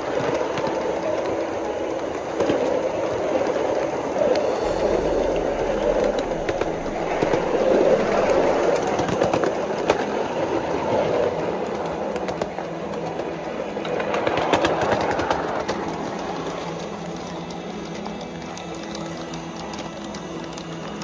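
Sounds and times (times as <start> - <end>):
miniature steam locomotive running: 0.0 - 21.0
wheels clicking on rails: 0.0 - 21.0.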